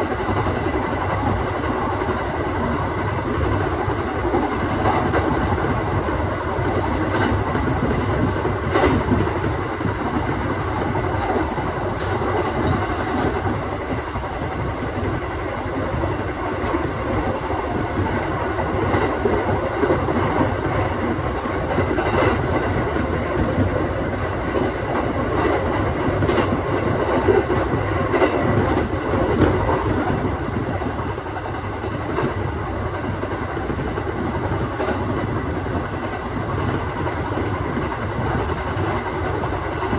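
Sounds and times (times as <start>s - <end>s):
rail joint clacks: 0.0s - 39.9s
train wheels rumbling on rail: 0.0s - 39.9s.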